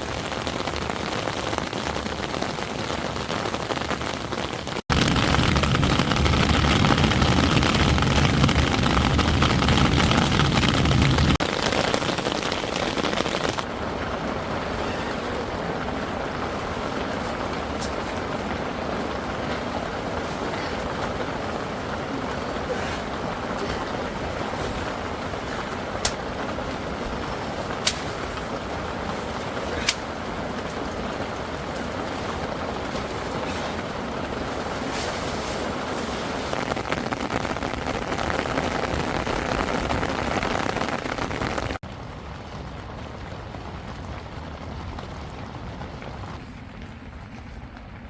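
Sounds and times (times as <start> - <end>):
heavy rain on a tent: 0.0 - 48.0.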